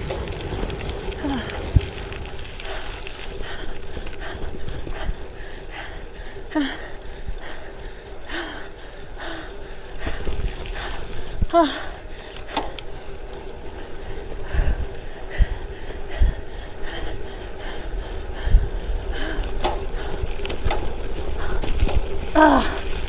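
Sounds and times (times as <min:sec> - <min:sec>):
bicycle tyre noise: 0:00.0 - 0:23.0
wind rumbling on microphone: 0:00.0 - 0:23.0
hard rapid breathing: 0:01.2 - 0:23.0.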